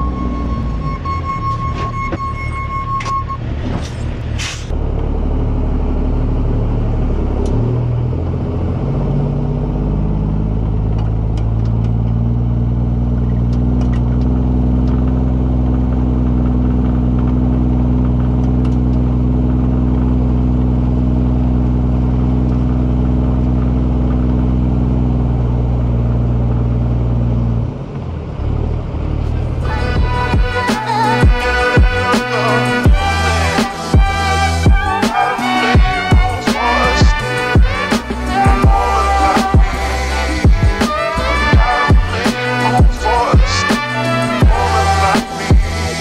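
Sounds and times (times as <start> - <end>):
heavy diesel truck engine: 0.0 - 46.0.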